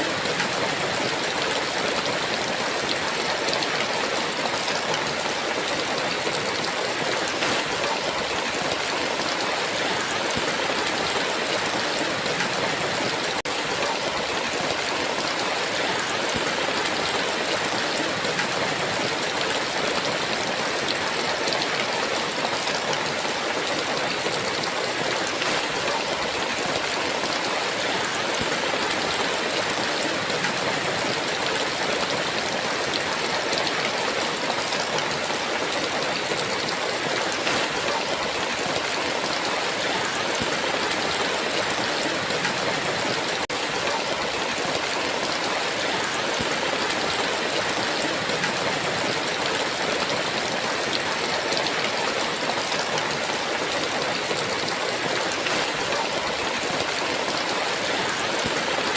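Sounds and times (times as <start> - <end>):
heavy rain downpour: 0.0 - 58.9.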